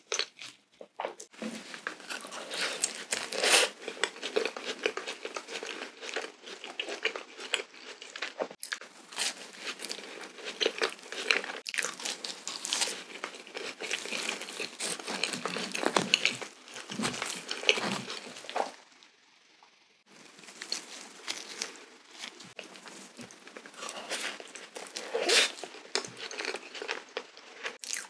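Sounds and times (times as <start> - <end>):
chewing soft donut: 0.0 - 19.3, 20.1 - 28.0.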